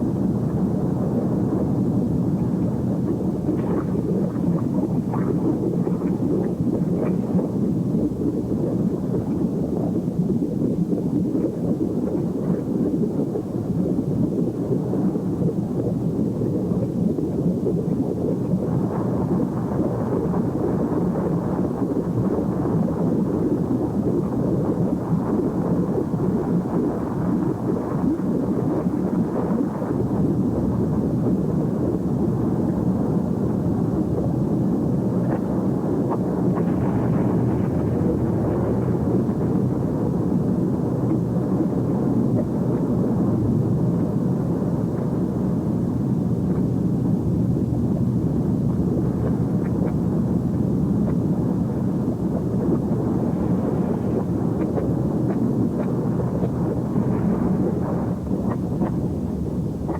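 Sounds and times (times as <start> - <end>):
volcano rumbling: 0.0 - 59.9.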